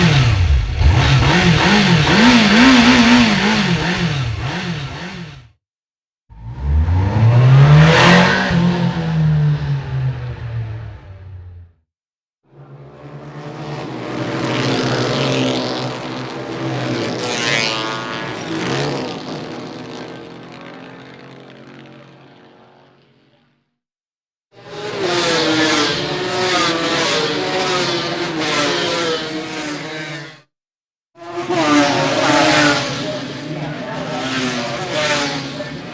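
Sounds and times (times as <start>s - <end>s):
motorcycle passing by: 0.0s - 5.5s, 6.4s - 11.8s, 12.6s - 23.6s, 24.6s - 30.5s, 31.2s - 35.9s
engine revving: 0.0s - 5.6s, 6.3s - 11.8s, 12.6s - 22.6s, 24.6s - 30.5s, 31.2s - 35.9s.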